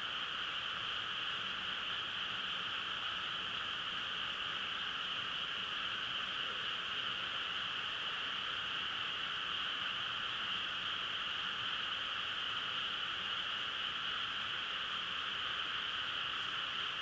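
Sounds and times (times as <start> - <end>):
frogs chorus: 0.0 - 17.0.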